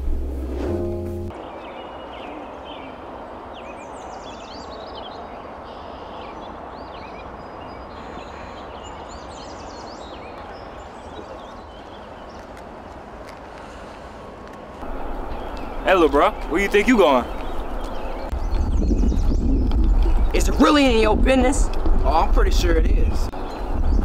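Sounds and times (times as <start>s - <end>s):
small birds chirping: 1.4s - 12.8s, 14.8s - 24.0s.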